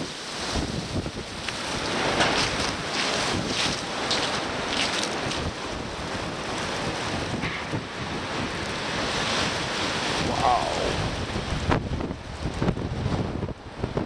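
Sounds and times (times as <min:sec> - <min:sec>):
gusty wind on microphone: 0:00.0 - 0:14.0.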